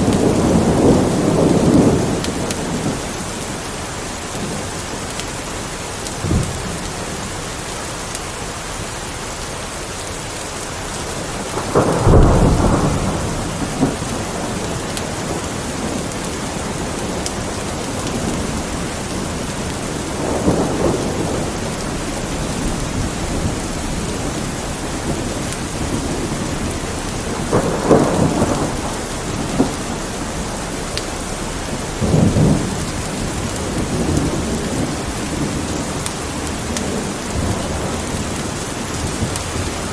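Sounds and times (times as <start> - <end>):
thunder rumbles: 0.0 - 8.9, 10.7 - 39.9
steady rain: 0.0 - 39.9.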